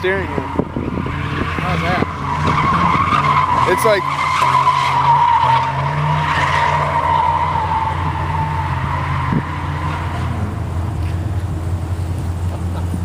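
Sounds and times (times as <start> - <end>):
car engine humming: 0.0 - 13.0
tires squealing: 0.0 - 13.0.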